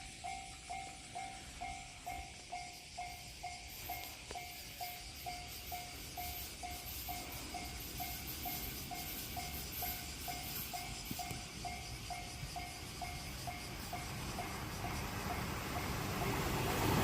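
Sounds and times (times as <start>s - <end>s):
level-crossing warning bell: 0.0s - 17.0s.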